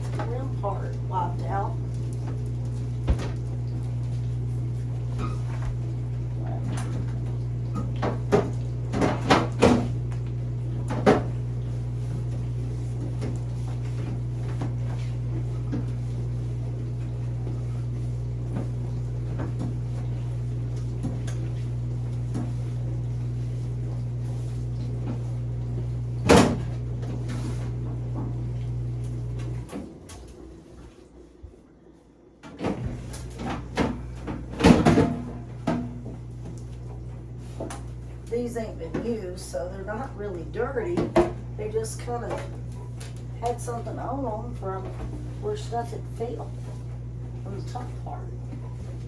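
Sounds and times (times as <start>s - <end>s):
steady low hum: 0.0s - 29.8s, 32.6s - 49.0s.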